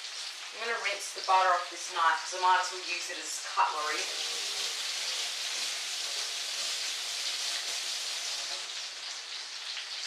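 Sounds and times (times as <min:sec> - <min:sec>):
kitchen tap running: 0:00.0 - 0:10.0.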